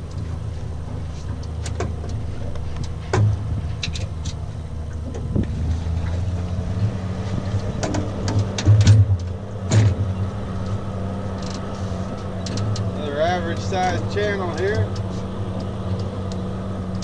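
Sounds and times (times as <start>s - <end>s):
sharp clicks and knocks: 0.0s - 5.5s, 7.5s - 17.0s
boat motor idling: 0.0s - 17.0s.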